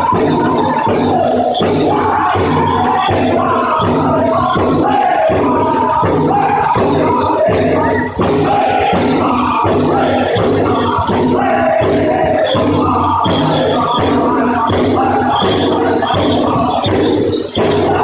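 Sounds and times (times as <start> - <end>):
bells jingling: 0.0 - 18.0
group singing in unison: 0.0 - 18.0
steady drumbeat: 0.0 - 18.0.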